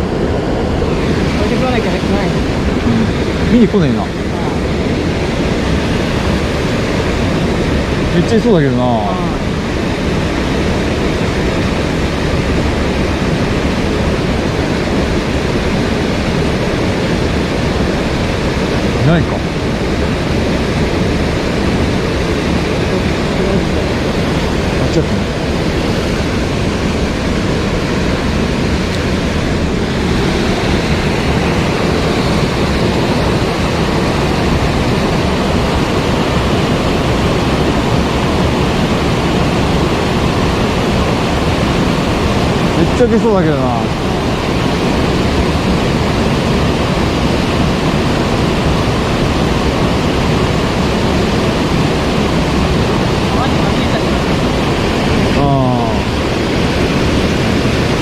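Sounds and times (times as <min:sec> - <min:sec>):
stream water rushing over rocks: 0:00.0 - 0:58.0.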